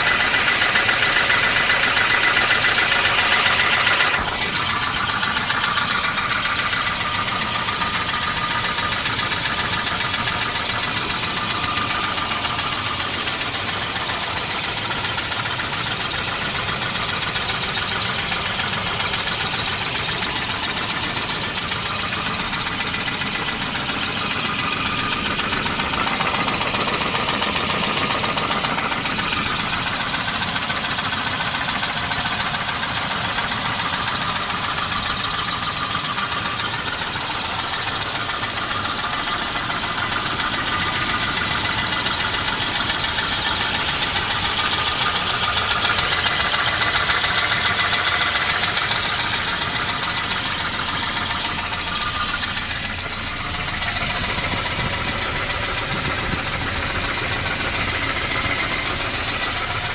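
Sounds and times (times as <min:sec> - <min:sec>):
car engine knocking: 0:00.0 - 0:59.9.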